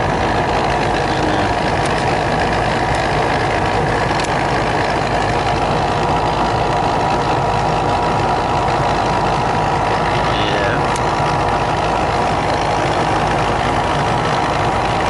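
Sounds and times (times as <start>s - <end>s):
air conditioning unit humming: 0.0s - 15.0s.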